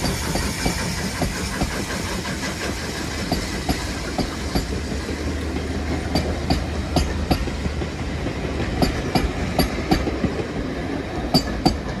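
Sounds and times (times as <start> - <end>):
low rumble of train: 0.0 - 12.0
train wheels clicking over rail joints: 0.0 - 12.0.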